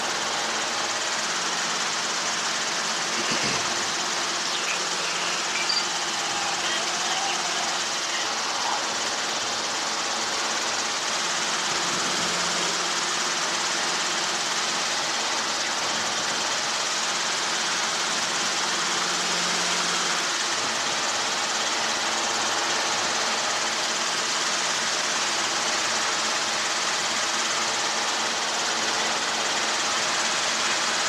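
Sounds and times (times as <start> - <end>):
helicopter engine and rotor: 0.0 - 31.0.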